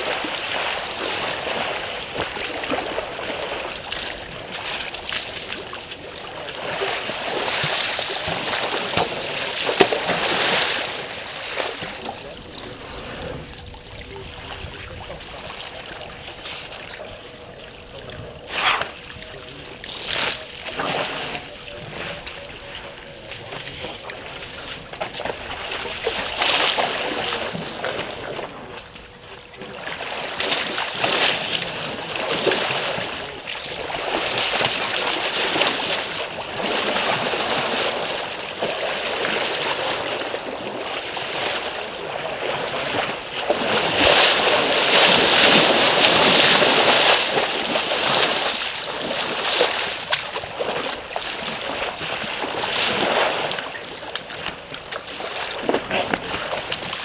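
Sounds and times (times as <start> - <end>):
elephants splashing in water: 0.0 - 57.0.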